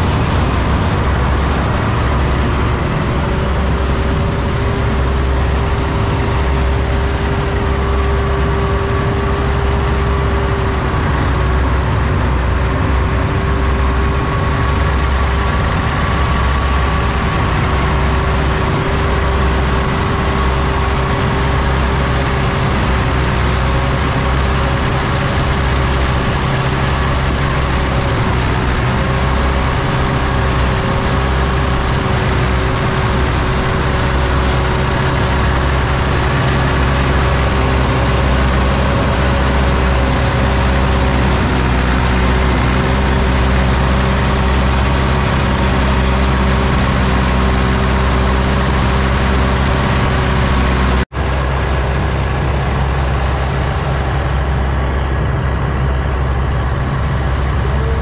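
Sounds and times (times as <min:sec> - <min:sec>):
heavy engine droning with whine: 0:00.0 - 0:58.0.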